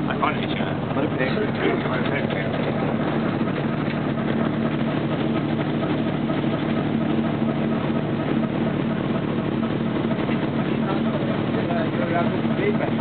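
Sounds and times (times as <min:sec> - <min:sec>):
ship diesel engine drone: 0:00.0 - 0:13.0.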